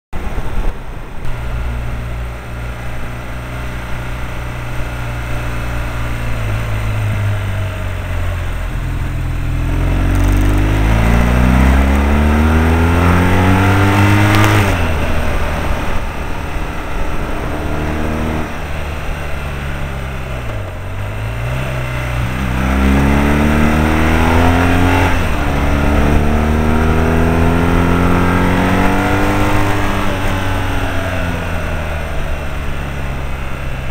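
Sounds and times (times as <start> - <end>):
motorcycle engine accelerating: 0.2 - 33.9.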